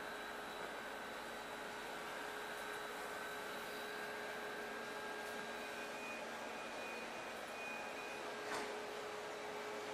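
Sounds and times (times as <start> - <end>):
faint whining tones: 0.0 - 9.9.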